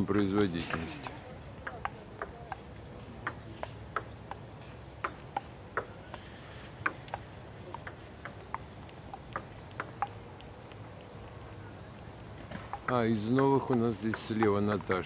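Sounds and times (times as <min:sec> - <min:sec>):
table tennis balls clicking: 0:00.0 - 0:15.0.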